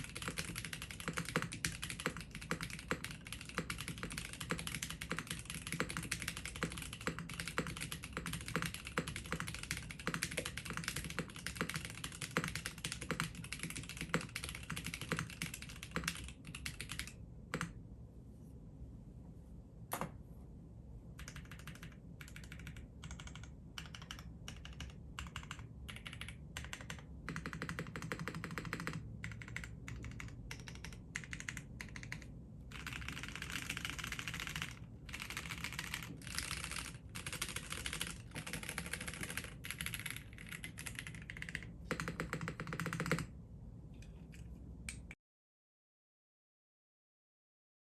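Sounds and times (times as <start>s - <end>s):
mechanical keyboard typing: 0.0s - 17.8s, 21.2s - 43.4s.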